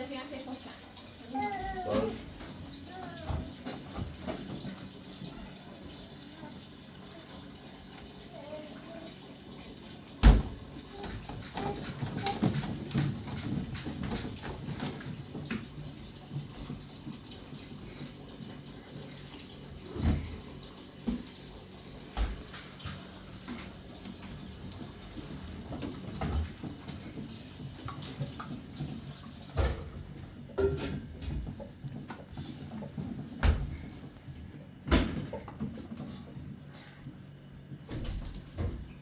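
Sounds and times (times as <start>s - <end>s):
water running and dripping: 0.0s - 37.4s.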